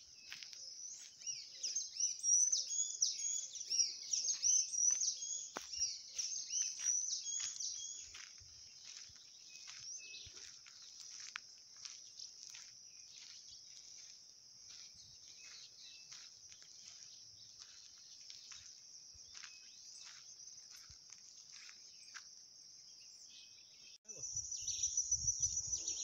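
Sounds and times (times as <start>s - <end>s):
insect chorus drone: 0.1s - 26.0s.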